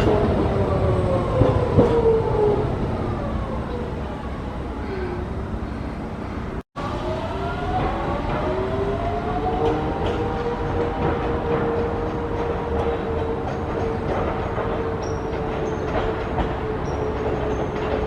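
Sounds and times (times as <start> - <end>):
tram motor whining: 0.0 - 18.0.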